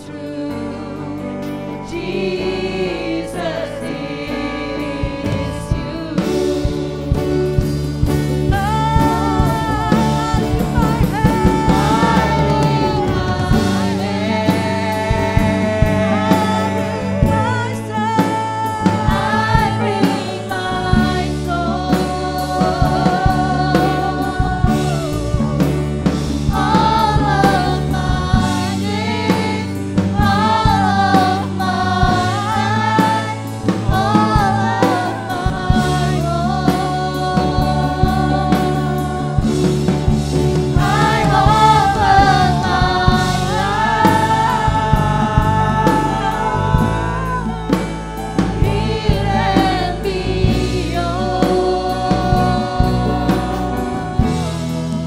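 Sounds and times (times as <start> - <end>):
bass: 0.0 - 55.0
drum kit: 0.0 - 55.0
keyboards: 0.0 - 55.0
person singing: 0.0 - 55.0.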